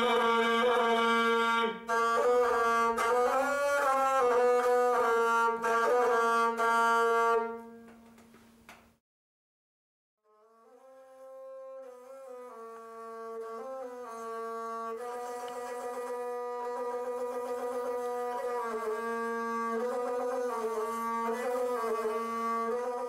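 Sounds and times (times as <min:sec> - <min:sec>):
bowed string folk melody: 0:00.0 - 0:07.9, 0:11.1 - 0:23.0.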